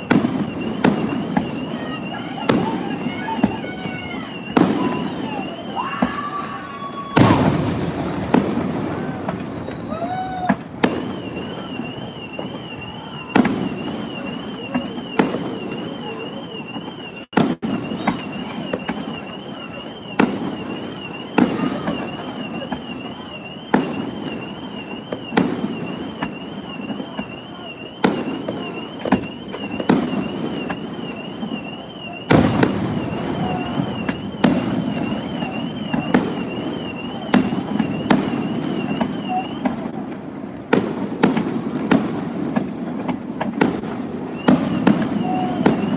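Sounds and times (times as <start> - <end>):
fireworks bursting with bangs: 0.0 - 45.9.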